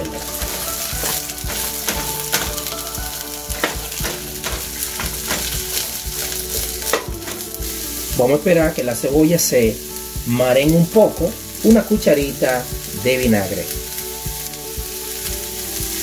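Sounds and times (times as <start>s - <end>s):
onions sizzling in a frying pan: 0.0s - 16.0s
wooden spoon scraping a pan: 0.0s - 16.0s.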